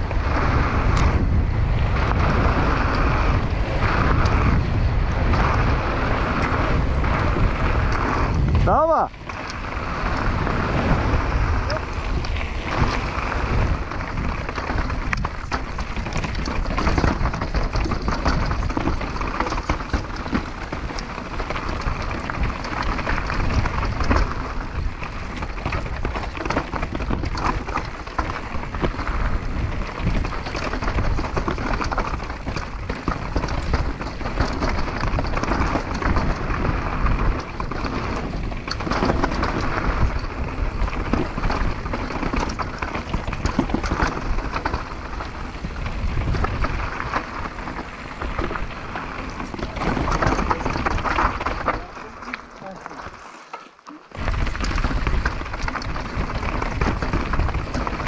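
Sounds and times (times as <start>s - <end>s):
wind rumble on microphone: 0.0s - 53.0s, 54.1s - 58.0s
bike rattling and clicking: 0.0s - 58.0s
tyres crunching over gravel: 0.0s - 58.0s.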